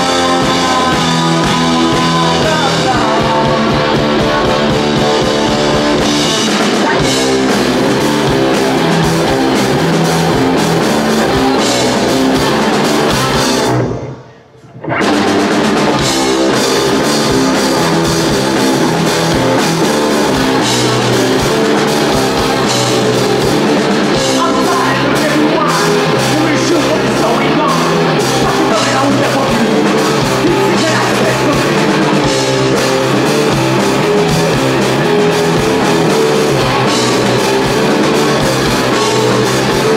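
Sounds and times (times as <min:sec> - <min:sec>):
drum kit: 0:00.0 - 0:14.2, 0:14.8 - 0:39.9
bass guitar: 0:00.0 - 0:39.9
distorted electric guitar: 0:00.0 - 0:39.9.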